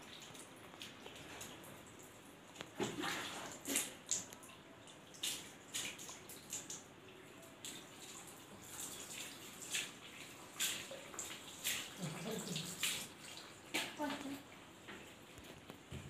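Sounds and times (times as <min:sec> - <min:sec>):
water splashing onto floor: 0:00.0 - 0:15.9.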